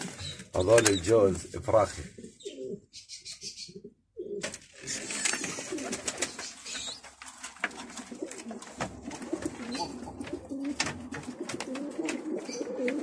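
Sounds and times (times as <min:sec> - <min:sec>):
pigeons cooing: 0:02.1 - 0:13.0.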